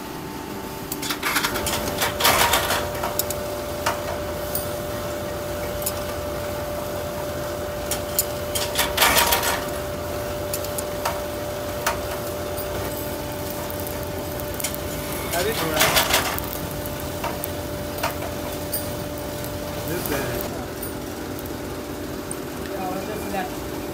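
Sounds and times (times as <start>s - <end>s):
constant machine tone: 0.0s - 23.9s
machinery humming: 0.0s - 23.9s.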